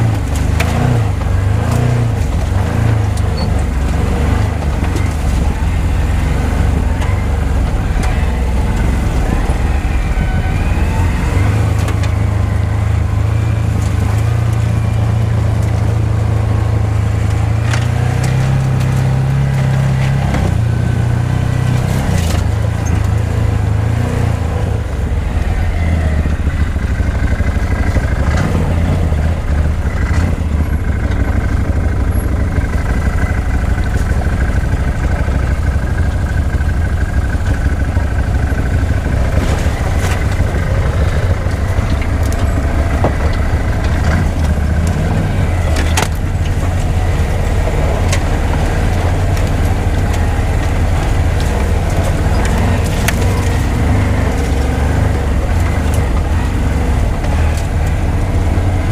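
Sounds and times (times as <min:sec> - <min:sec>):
utility vehicle engine running: 0:00.0 - 0:58.9
vehicle rattling over rough ground: 0:00.0 - 0:58.9.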